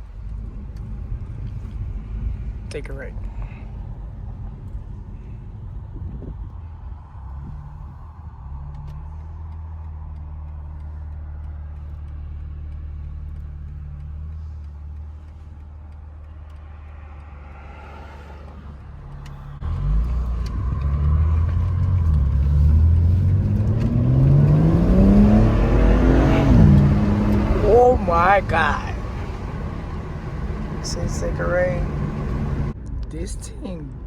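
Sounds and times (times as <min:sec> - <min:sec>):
car engine accelerating hard: 0:00.0 - 0:32.8.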